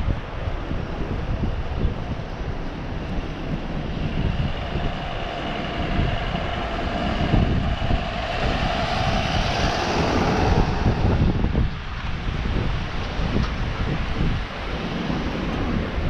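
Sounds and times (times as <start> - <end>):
engine whine: 0.0 - 16.0
wind on microphone: 0.0 - 16.0.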